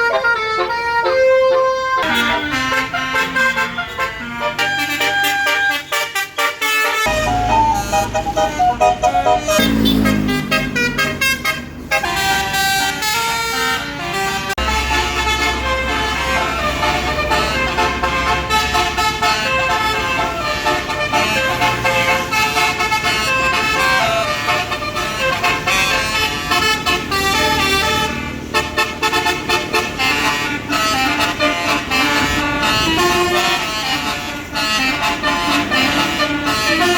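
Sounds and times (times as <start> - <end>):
multi-trumpet bus horn tune: 0.0 - 36.9
diesel engine rumble: 6.9 - 36.9.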